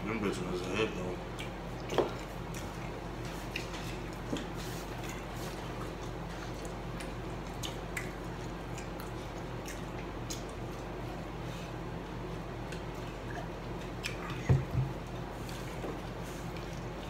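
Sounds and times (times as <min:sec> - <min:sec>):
steady low hum: 0:00.0 - 0:17.0
people chewing: 0:00.6 - 0:17.0.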